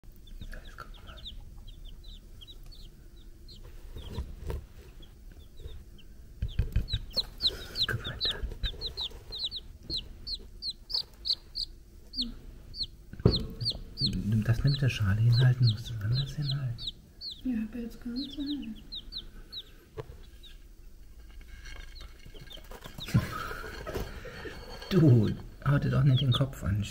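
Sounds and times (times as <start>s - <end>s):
chicks peeping: 0.1s - 26.9s.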